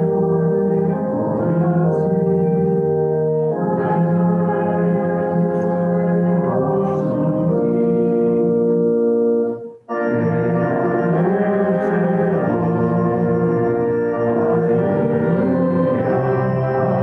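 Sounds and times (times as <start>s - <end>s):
organ playing held chords: 0.0s - 17.0s.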